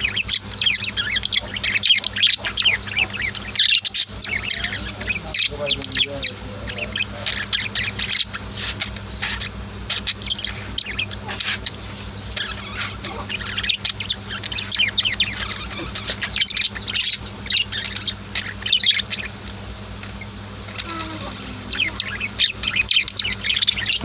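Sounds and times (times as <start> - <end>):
caged birds chirping and squawking: 0.0 - 24.0
steady low hum: 0.0 - 24.0.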